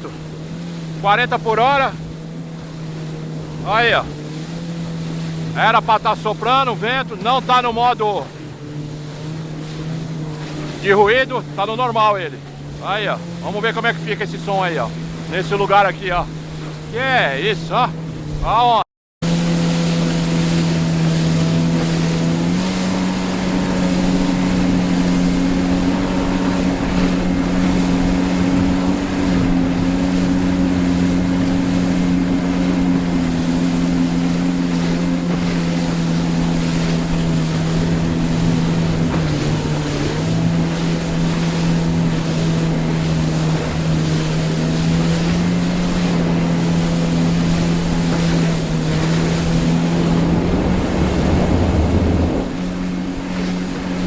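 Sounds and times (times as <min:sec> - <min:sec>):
jet ski engine running: 0:00.0 - 0:54.0
wind: 0:00.0 - 0:54.0.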